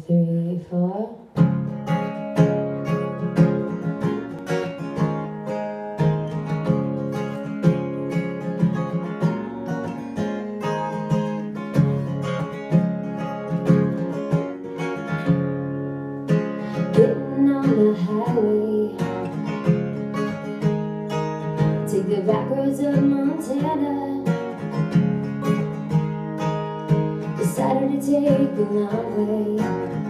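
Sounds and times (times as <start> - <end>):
acoustic guitar strumming: 1.2 - 30.0.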